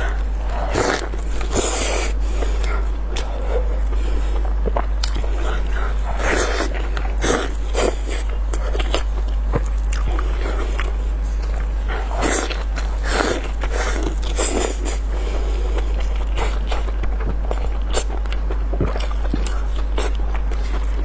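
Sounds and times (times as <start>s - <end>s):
person biting and chewing: 0.0s - 15.1s, 15.7s - 21.0s
steady low hum: 0.0s - 21.0s.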